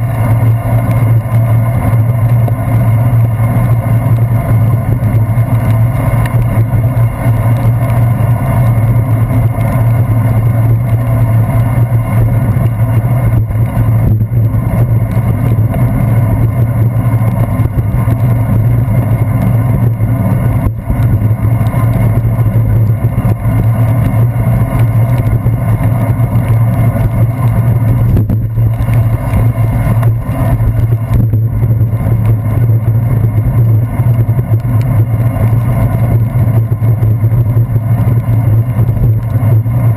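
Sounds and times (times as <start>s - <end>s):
bicycle rolling on wet pavement: 0.0s - 39.9s
constant low hum: 0.0s - 39.9s
wind noise: 0.0s - 39.9s.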